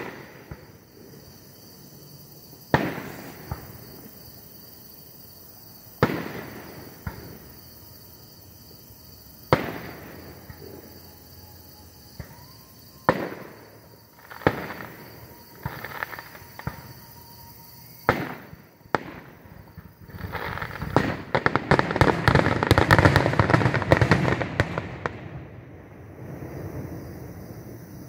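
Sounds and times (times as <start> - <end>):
fireworks bangs: 0.0 - 1.4, 2.5 - 4.4, 5.9 - 7.6, 9.4 - 11.0, 12.0 - 27.8
fireworks crackles: 0.0 - 1.6, 2.2 - 4.6, 5.8 - 7.8, 9.3 - 11.1, 12.1 - 28.0.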